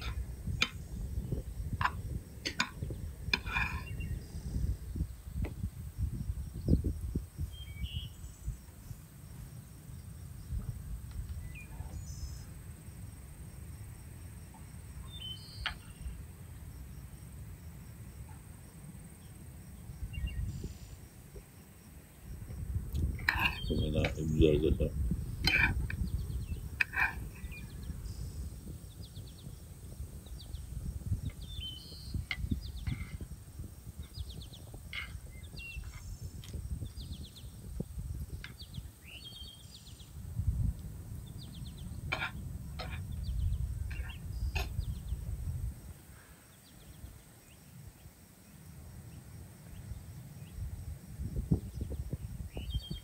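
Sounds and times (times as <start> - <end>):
small birds chirping: 0.0 - 12.6, 14.5 - 16.8, 19.2 - 45.5, 46.1 - 50.6, 51.4 - 53.0.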